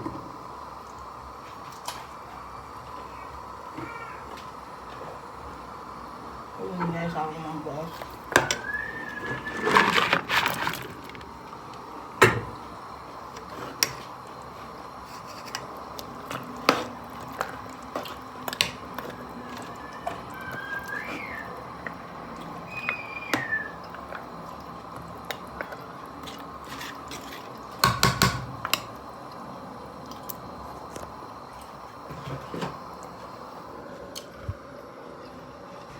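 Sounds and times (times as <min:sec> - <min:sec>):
stew bubbling in a pot: 0:04.4 - 0:35.2.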